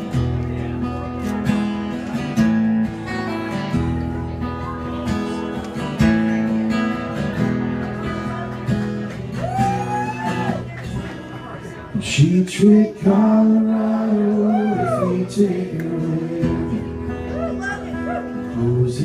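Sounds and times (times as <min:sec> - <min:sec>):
acoustic guitar strumming chords: 0:00.0 - 0:09.4, 0:10.3 - 0:19.0.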